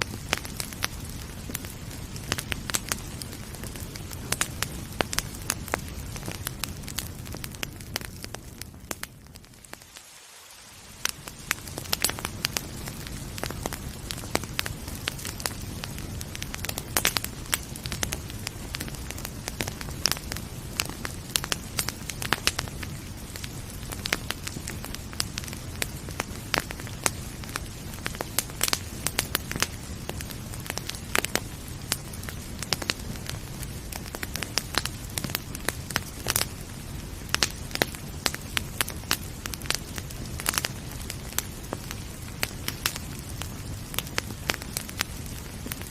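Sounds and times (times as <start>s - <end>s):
gentle rain hissing: 0.0s - 45.9s
low rumble of flames: 0.0s - 45.9s
wood fire crackling: 0.0s - 45.9s.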